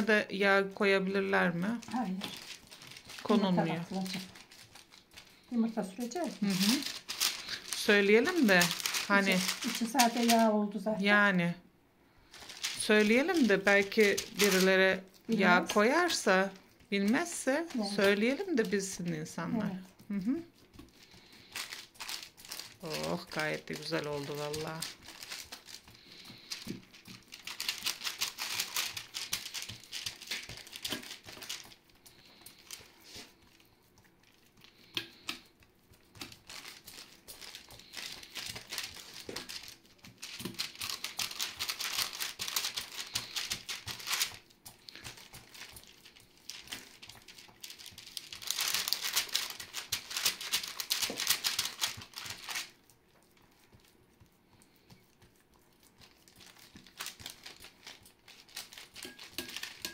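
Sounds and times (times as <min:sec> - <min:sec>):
dough crackling under hands: 0:00.0 - 0:11.4, 0:12.1 - 0:59.9.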